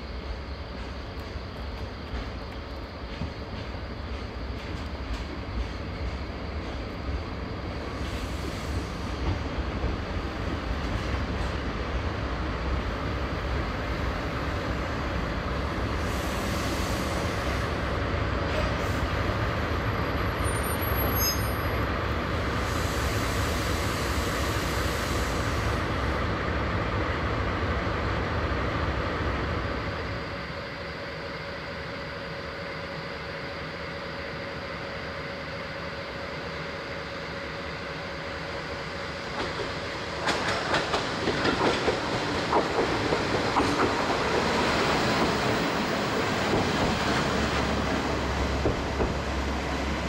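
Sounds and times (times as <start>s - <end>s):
freight train low rumble: 0.0s - 50.0s.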